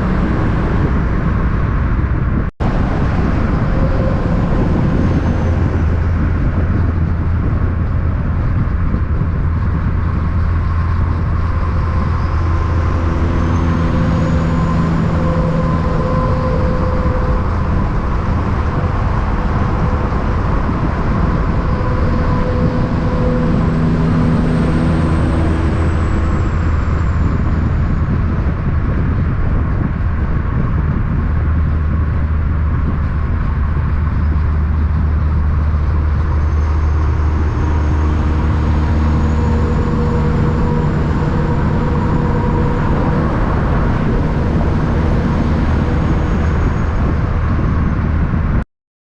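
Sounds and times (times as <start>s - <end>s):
diesel truck engine droning: 0.0s - 48.6s.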